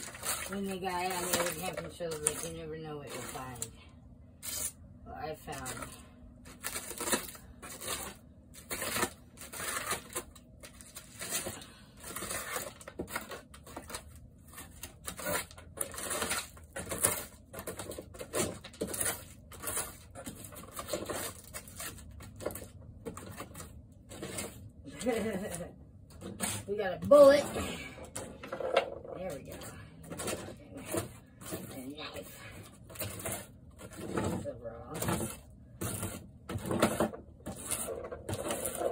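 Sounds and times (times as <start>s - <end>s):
wood paneling cracking and splintering: 0.0s - 3.8s, 5.5s - 38.9s.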